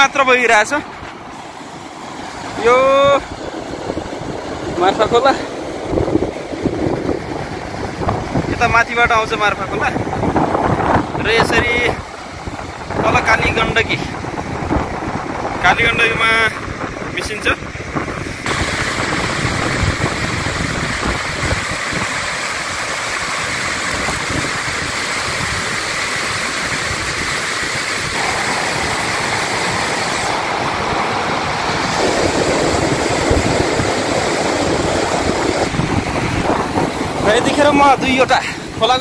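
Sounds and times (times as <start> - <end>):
muddy flood water rushing: 0.0 - 39.0.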